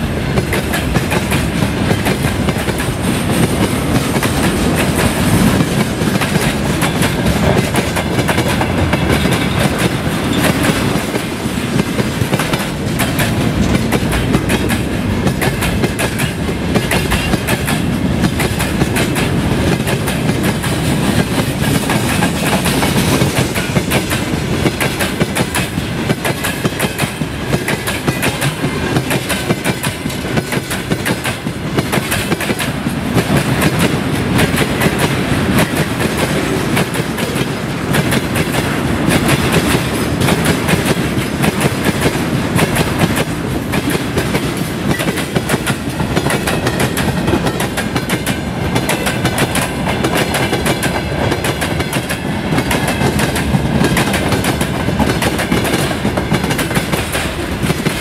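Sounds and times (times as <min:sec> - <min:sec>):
freight train rumbling past: 0:00.0 - 0:58.0
wheels clattering on rails: 0:00.0 - 0:58.0.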